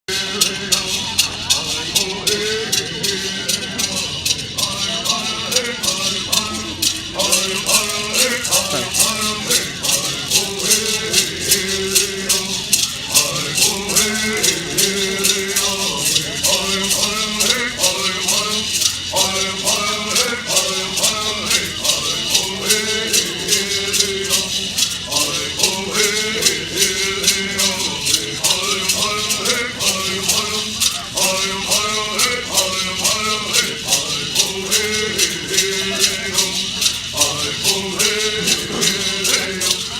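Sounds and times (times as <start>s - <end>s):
singers chanting together: 0.0s - 39.9s
gourd rattles shaking: 0.1s - 39.9s.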